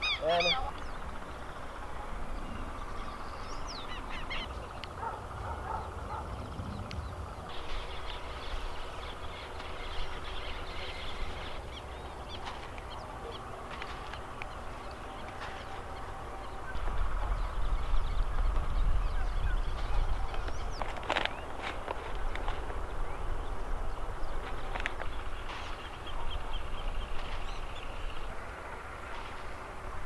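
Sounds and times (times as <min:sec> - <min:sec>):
birds chirping: 0:00.0 - 0:30.0
wind rumble on microphone: 0:00.7 - 0:30.0.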